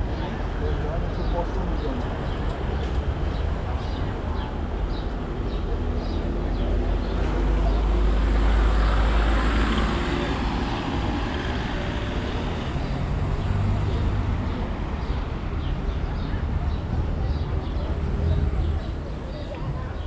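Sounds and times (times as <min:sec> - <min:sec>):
passing vehicle engine rumble: 0:00.0 - 0:20.0.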